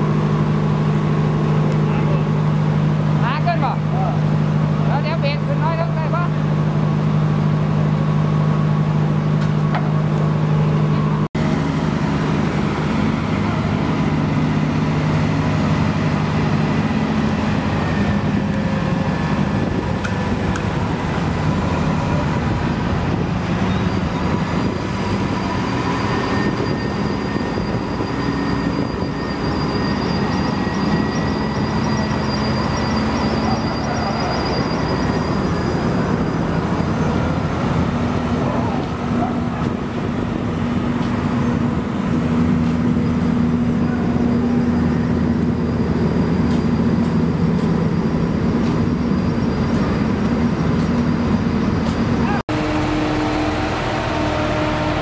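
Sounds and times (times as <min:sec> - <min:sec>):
diesel construction machinery running: 0:00.0 - 0:55.0.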